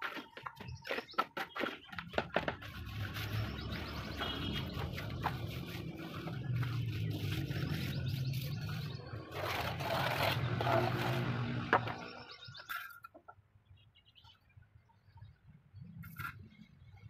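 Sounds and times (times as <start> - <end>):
trowel scraping wet cement: 0.0 - 13.2, 16.0 - 16.9.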